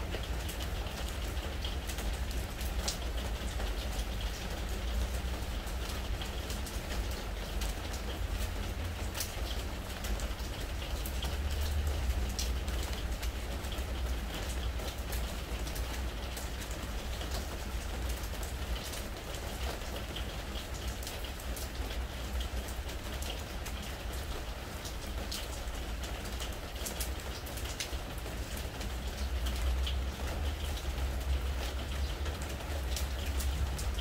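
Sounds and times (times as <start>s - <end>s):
rain pattering on wooden deck: 0.0s - 34.0s.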